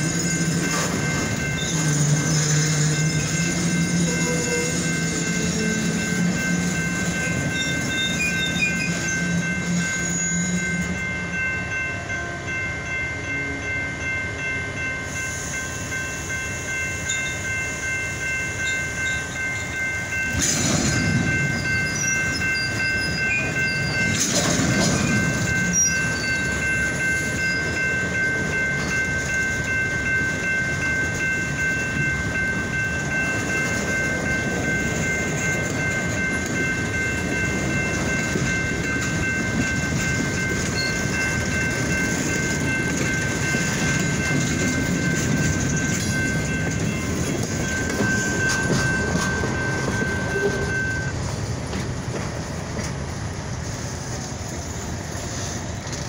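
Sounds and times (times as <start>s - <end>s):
high-pitched ringing tone: 0.0s - 56.0s
train wheels rumbling on rails: 0.0s - 56.0s.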